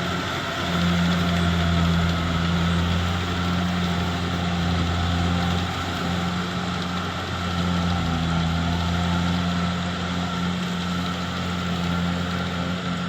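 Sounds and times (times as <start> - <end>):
combine harvester engine drone: 0.0 - 13.0
rush of working machinery: 0.0 - 13.0.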